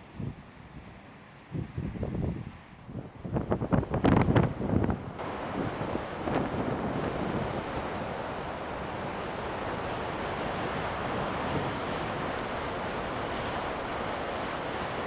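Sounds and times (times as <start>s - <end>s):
strong wind blowing: 1.6s - 15.0s.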